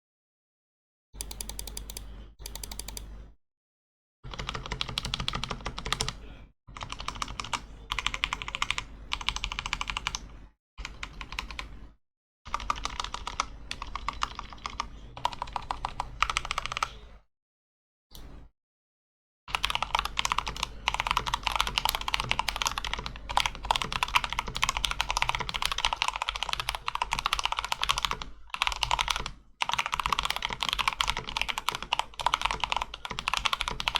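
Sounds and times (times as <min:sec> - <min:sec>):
mechanical keyboard typing: 0:01.2 - 0:03.1, 0:04.3 - 0:06.2, 0:06.8 - 0:11.7, 0:12.5 - 0:17.0, 0:19.5 - 0:33.9.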